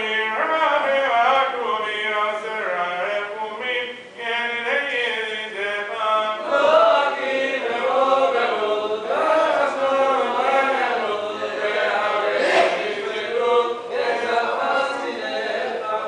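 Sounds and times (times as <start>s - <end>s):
men chanting prayers: 0.0s - 16.0s.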